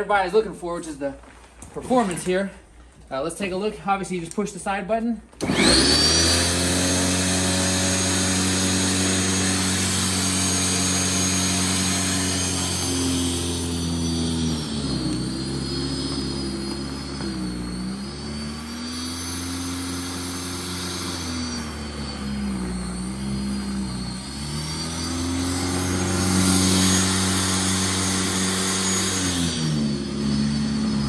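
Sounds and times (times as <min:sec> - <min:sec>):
snow thrower motor whine: 0:05.4 - 0:31.0.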